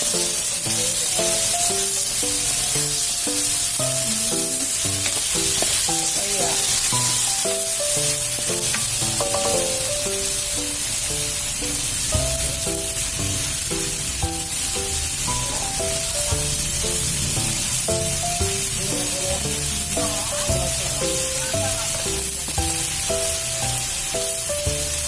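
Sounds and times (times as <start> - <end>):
background music: 0.0 - 25.0
food sizzling in oil: 0.0 - 25.0.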